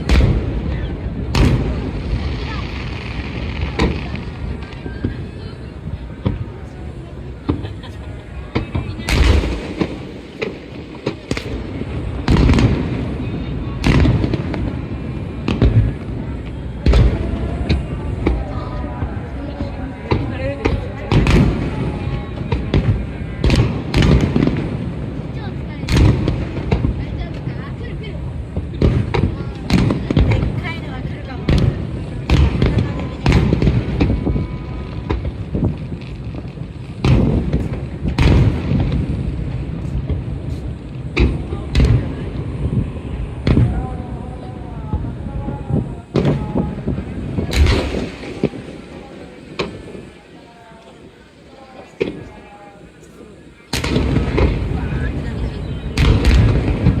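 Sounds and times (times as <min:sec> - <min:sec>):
fireworks booming overhead: 0:00.0 - 0:57.0
rolling rumble: 0:00.0 - 0:57.0.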